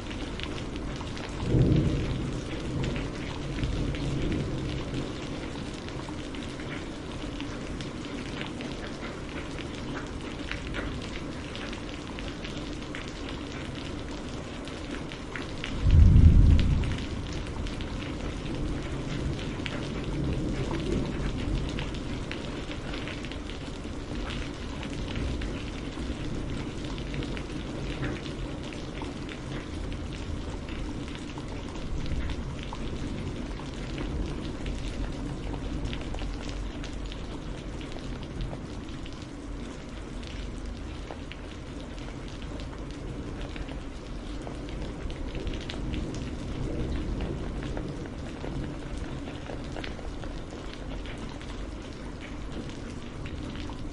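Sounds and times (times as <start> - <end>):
rain drops pattering: 0.0 - 53.9.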